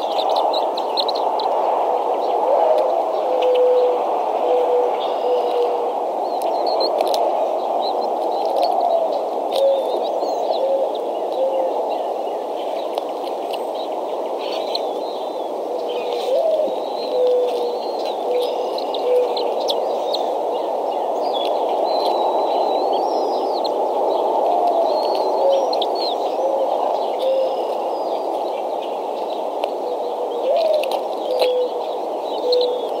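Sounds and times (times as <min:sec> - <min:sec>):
dove cooing song: 0:00.0 - 0:33.0
small songbirds chirping: 0:00.0 - 0:33.0.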